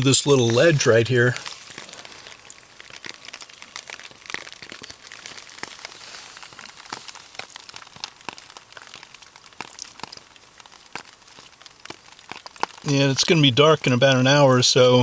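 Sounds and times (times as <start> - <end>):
heavy raindrops ticking: 0.0 - 15.0
light rain hiss: 0.0 - 15.0.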